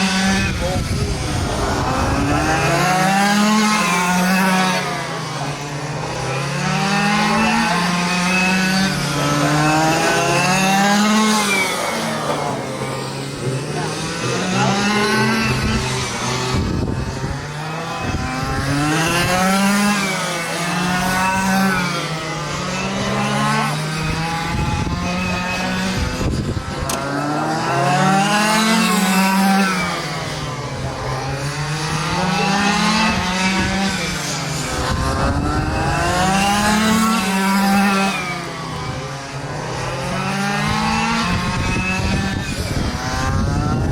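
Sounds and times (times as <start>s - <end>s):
small race truck engines revving: 0.0s - 43.9s.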